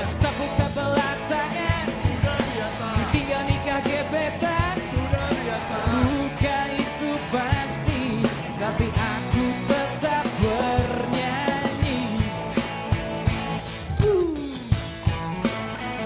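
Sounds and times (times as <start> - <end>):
man singing lead: 0.0 - 13.0
bass guitar: 0.0 - 16.0
drum kit beat: 0.0 - 16.0
guitars playing: 0.0 - 16.0.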